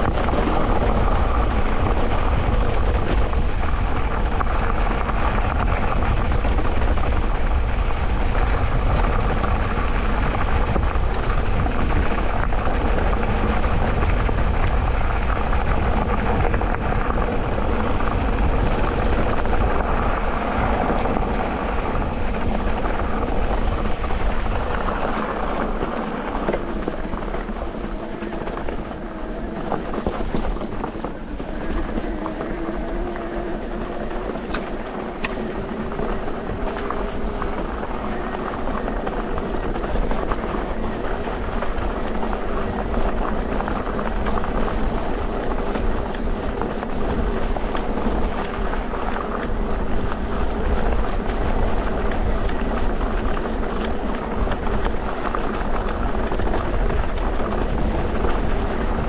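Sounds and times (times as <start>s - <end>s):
bike tyres and rattle on dirt: 0.0s - 59.0s
faint motor whine: 0.0s - 59.0s.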